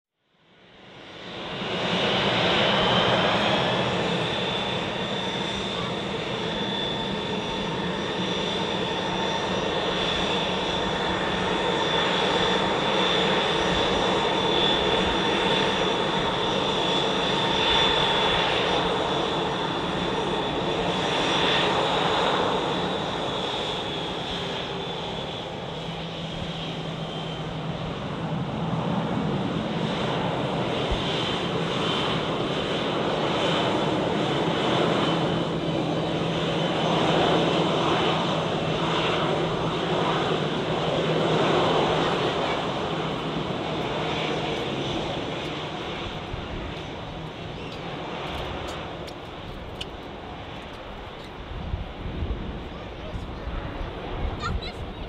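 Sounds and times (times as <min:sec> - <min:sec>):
jet engine high whine: 0:00.3 - 0:55.0
broad rushing engine hum: 0:01.3 - 0:55.0.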